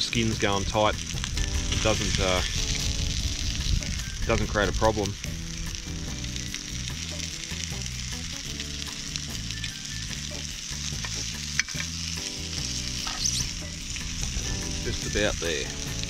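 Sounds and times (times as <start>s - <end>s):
sausages sizzling in a frying pan: 0.0s - 16.0s.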